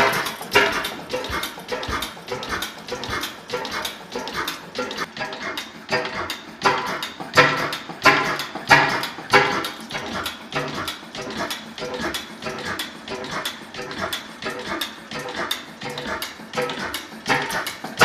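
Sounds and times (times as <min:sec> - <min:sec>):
engine mechanical knocks: 0:00.0 - 0:18.0
oil engine exhaust beats: 0:00.0 - 0:18.0.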